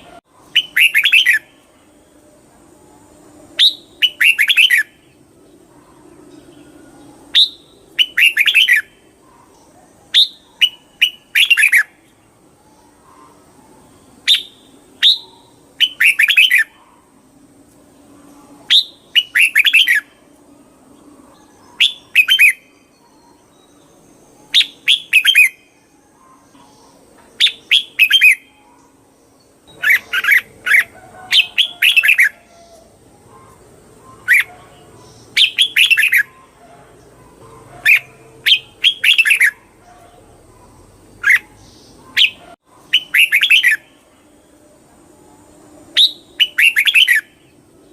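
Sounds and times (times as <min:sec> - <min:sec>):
bird singing whistled notes: 0:00.0 - 0:02.0, 0:03.0 - 0:05.1, 0:06.3 - 0:09.1, 0:10.1 - 0:12.1, 0:14.0 - 0:16.9, 0:18.3 - 0:20.3, 0:21.0 - 0:36.6, 0:37.8 - 0:44.5, 0:45.4 - 0:47.9.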